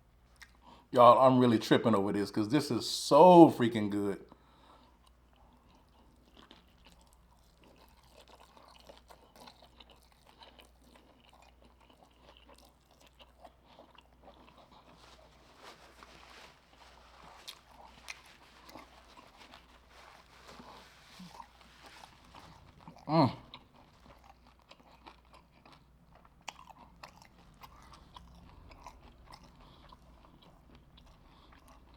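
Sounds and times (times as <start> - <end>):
crunching and chewing food: 0.0 - 1.2, 3.7 - 31.9.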